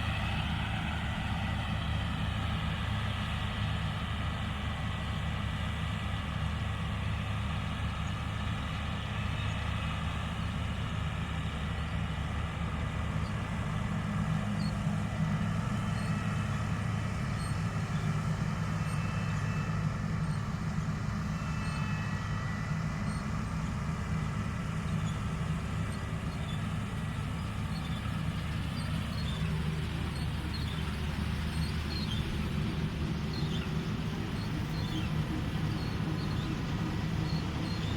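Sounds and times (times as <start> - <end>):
combine harvester engine drone: 0.0 - 37.9.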